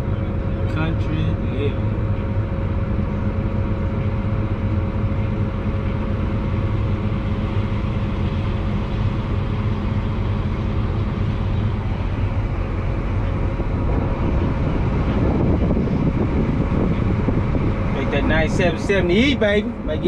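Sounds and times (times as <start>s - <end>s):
diesel harvest machinery droning: 0.0s - 20.0s.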